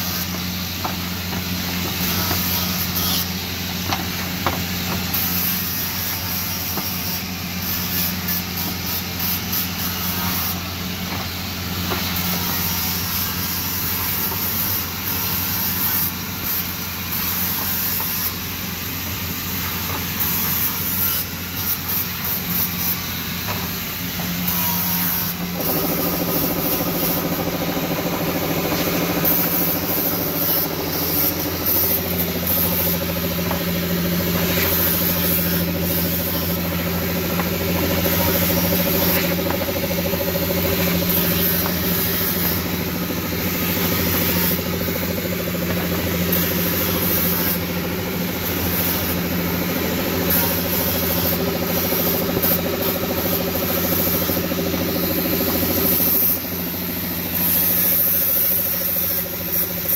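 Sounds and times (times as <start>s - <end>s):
grinder motor humming: 0.0s - 59.9s.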